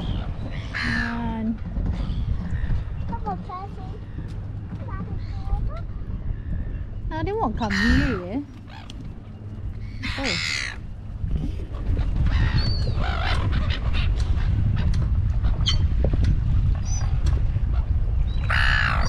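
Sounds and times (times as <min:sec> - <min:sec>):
gulls squawking: 0:00.0 - 0:15.9, 0:17.7 - 0:19.0
wind rumbling on microphone: 0:00.0 - 0:19.0.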